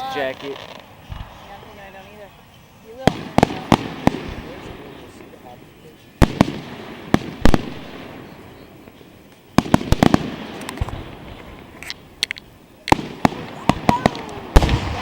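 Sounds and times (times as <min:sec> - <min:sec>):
firework shells bursting: 0:00.0 - 0:15.0
light firework pops: 0:00.1 - 0:01.8, 0:03.0 - 0:05.3, 0:06.2 - 0:15.0.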